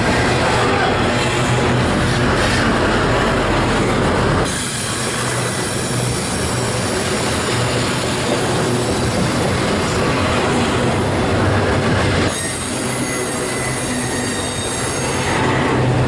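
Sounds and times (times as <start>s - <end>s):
low train rumble: 0.0s - 16.0s
train cars rolling on track: 0.0s - 16.0s.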